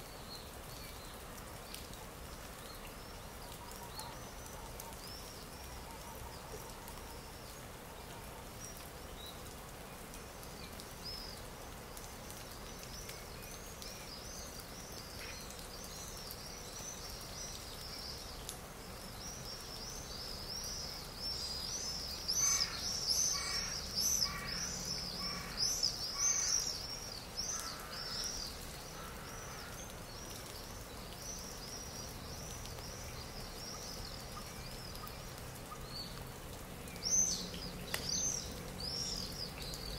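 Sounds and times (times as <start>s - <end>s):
outdoor hiss: 0.0s - 39.9s
songbirds chirping: 0.0s - 39.9s.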